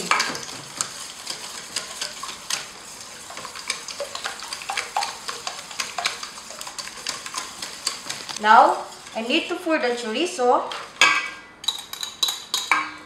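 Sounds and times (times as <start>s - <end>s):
whisk clicking against metal bowl: 0.0s - 9.2s, 11.1s - 13.0s
wet swish of egg mixture: 0.0s - 11.0s.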